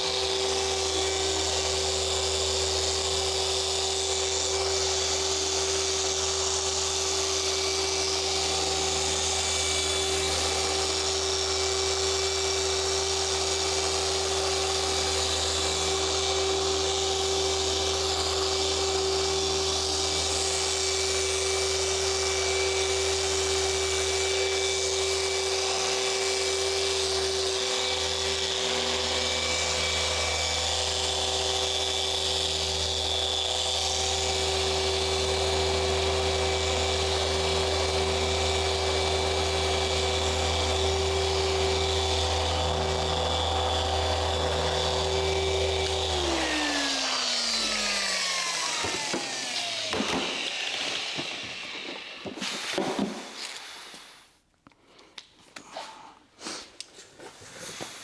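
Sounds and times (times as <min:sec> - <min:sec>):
orbital polisher motor whine: 0:00.0 - 0:53.6.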